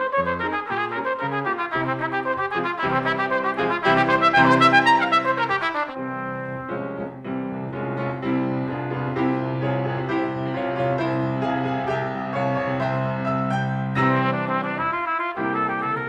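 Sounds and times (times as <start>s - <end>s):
piano chords over bass line: 0.0s - 16.0s.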